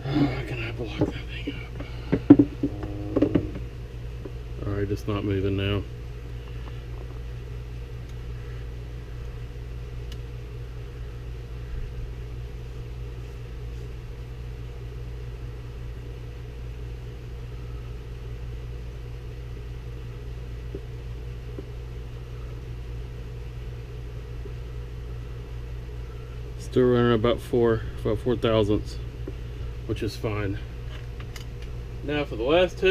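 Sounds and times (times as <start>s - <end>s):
low background hum: 0.0s - 32.9s.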